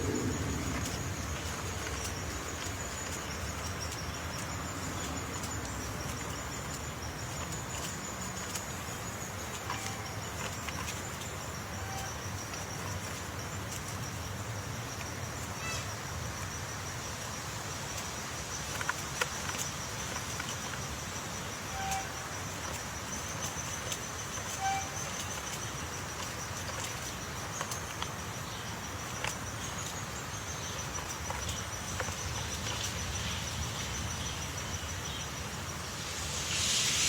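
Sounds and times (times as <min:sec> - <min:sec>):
insects chirring: 0:00.0 - 0:37.0
outdoor background noise: 0:00.0 - 0:37.0.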